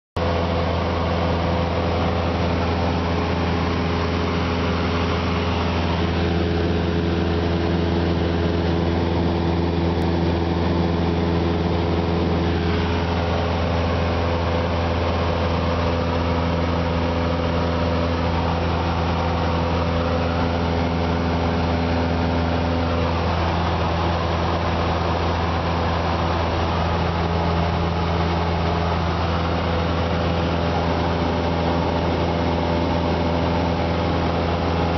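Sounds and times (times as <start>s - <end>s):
airplane engine drone in cabin: 0.2s - 34.9s.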